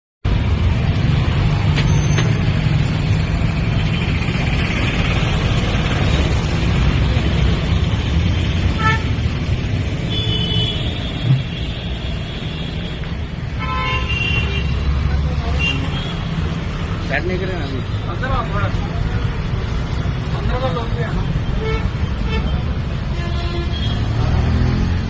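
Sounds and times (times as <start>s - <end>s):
vehicle engines rumbling: 0.3s - 25.0s.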